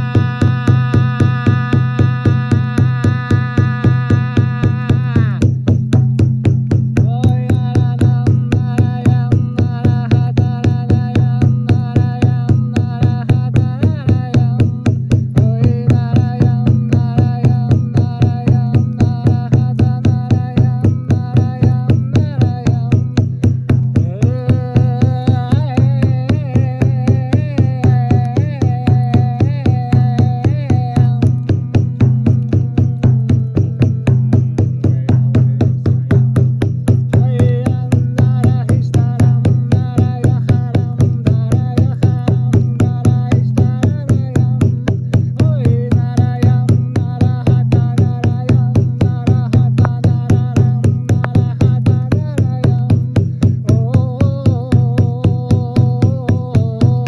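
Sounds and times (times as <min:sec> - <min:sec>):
quick even drumbeat: 0:00.0 - 0:57.0.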